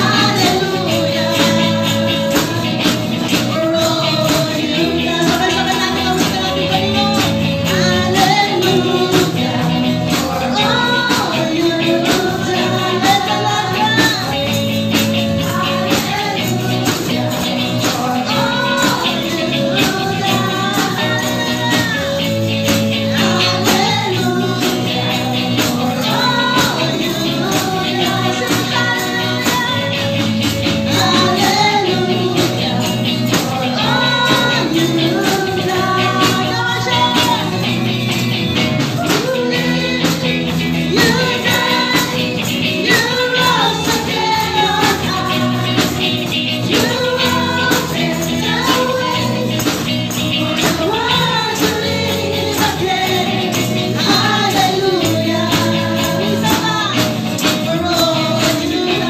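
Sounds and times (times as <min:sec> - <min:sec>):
live band with electric guitar: 0:00.0 - 0:59.0
tambourines shaken: 0:00.0 - 0:59.0
women singing together: 0:00.0 - 0:59.0.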